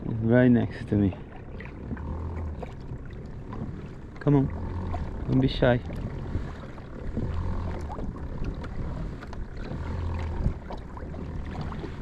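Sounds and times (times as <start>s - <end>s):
low rumble: 0.0s - 12.0s
water lapping against kayak hull: 0.0s - 12.0s.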